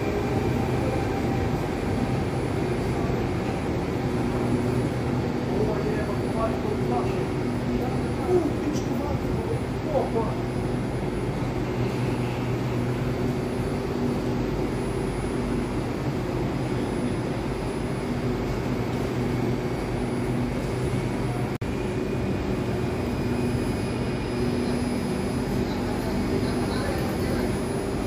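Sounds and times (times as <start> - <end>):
electric trains humming: 0.0 - 28.0.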